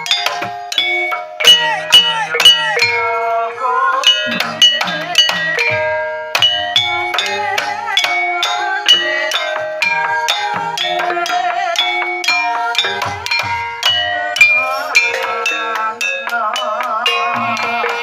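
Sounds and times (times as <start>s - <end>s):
drum strokes: 0.0s - 3.4s, 4.0s - 18.0s
gamelan ensemble playing: 0.0s - 18.0s.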